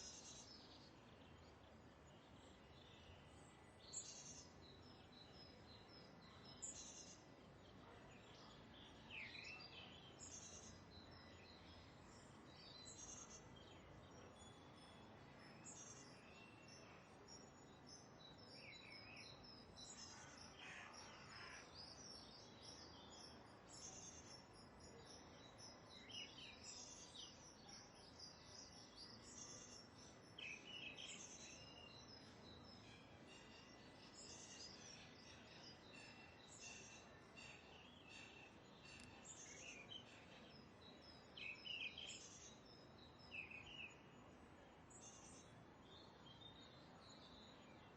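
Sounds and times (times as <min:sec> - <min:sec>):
low steady hiss: 0:00.0 - 0:47.9.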